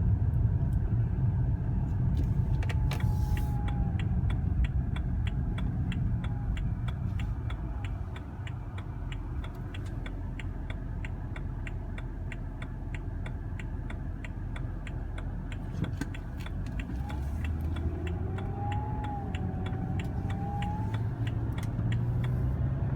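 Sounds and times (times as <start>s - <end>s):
car engine running: 0.0s - 22.9s
engine whine: 0.0s - 22.9s
regular ticking: 3.4s - 22.8s.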